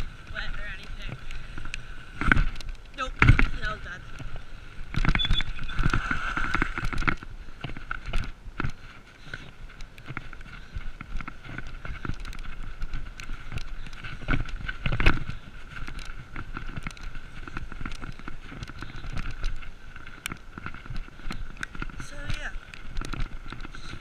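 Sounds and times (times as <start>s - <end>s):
bike tyres crunching on gravel: 0.0s - 24.0s.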